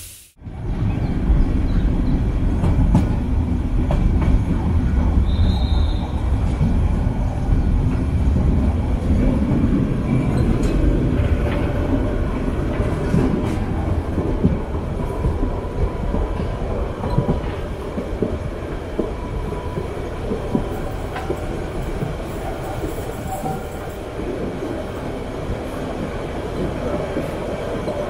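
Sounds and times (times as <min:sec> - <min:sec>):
train carriage rumble: 0:00.0 - 0:28.0.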